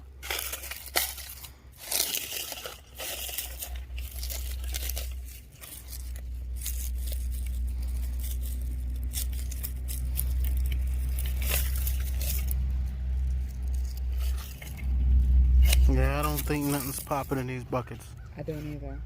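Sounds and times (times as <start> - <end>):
hands digging through soil and hay: 0.0 - 18.0
steady low rumble: 0.0 - 19.0.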